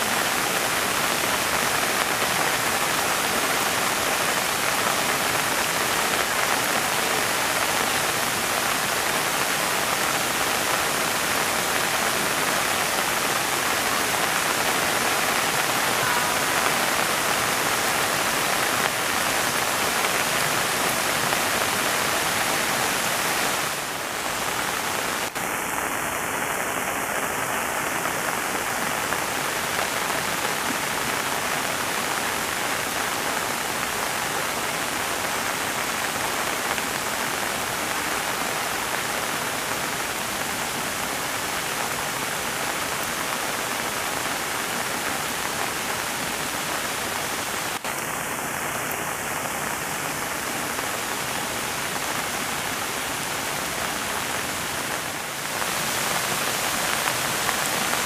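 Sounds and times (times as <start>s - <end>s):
heavy rain through trees: 0.0s - 58.0s.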